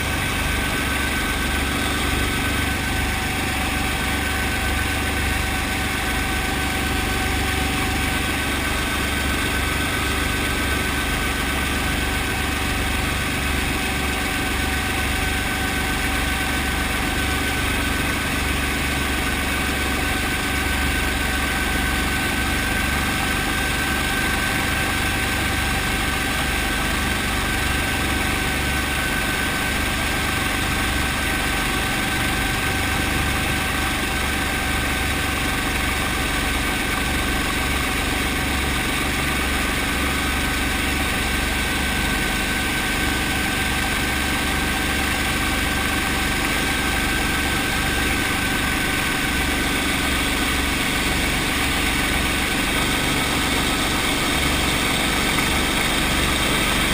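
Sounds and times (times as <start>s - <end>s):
helicopter engine throb with whine: 0.0s - 56.9s.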